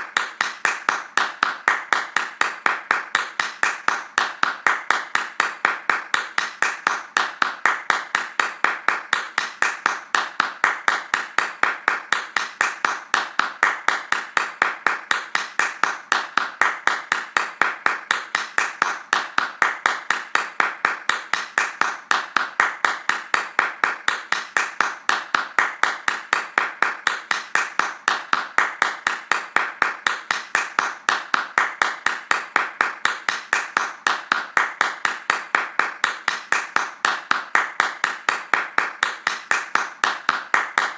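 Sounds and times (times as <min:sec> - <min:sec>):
hands clapping fast: 0:00.0 - 0:40.9.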